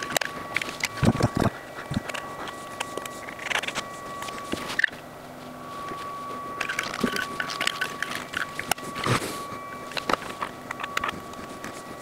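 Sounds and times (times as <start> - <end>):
nozzle and spreader clicks and scrapes: 0.0 - 5.0, 5.8 - 12.0
faint steady high tone: 0.0 - 12.0
silicone squelching: 0.0 - 12.0.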